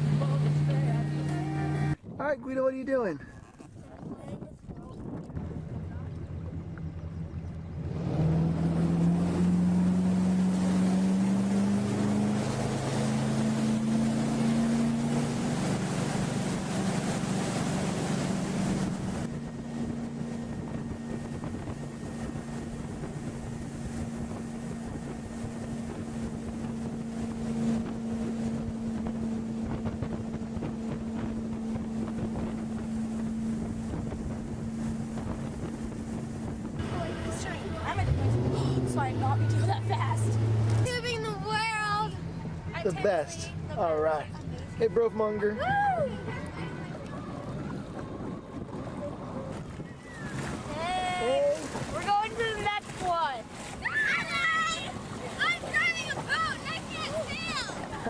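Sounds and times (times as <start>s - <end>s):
motorboat engine: 0.0s - 58.0s
rush of wind and water: 0.0s - 58.0s.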